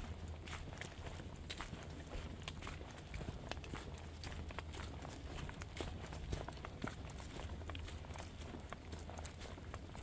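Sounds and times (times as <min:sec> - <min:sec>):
crackling footsteps on trail: 0:00.0 - 0:10.0.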